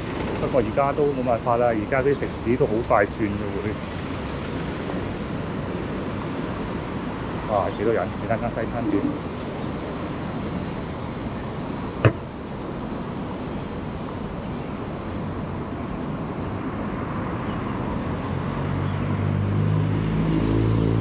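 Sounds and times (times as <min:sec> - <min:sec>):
road traffic noise: 0:00.0 - 0:21.0
vehicle engine hum: 0:02.2 - 0:21.0.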